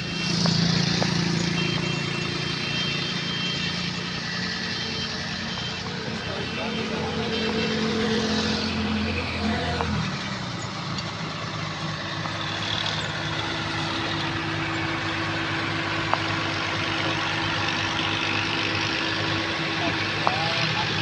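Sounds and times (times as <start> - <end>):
diesel machinery engines running: 0.0 - 21.0.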